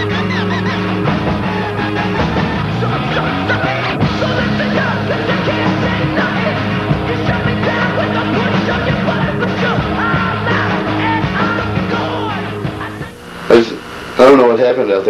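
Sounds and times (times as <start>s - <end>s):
loud rock music with vocals: 0.0s - 13.2s.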